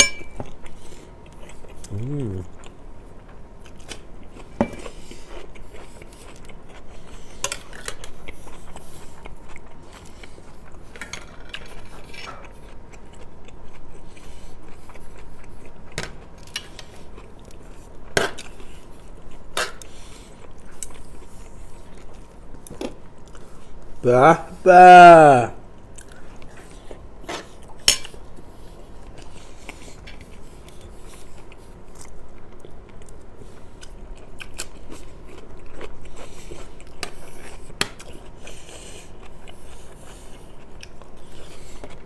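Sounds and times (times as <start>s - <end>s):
chewing and eating: 0.2s - 25.1s, 25.8s - 42.0s.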